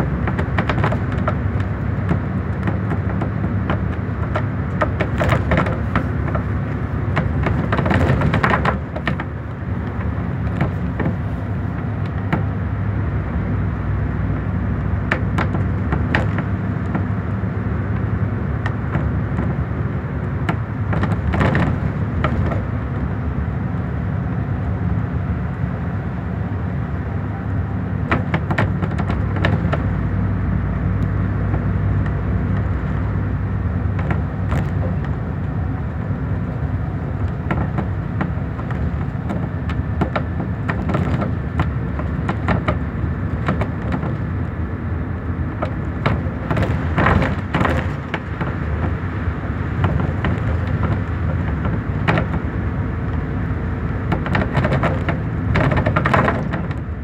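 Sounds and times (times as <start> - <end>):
knocks and rattles: 0.0 - 12.7, 14.9 - 23.2, 27.9 - 57.0
bus diesel engine running: 0.0 - 57.0.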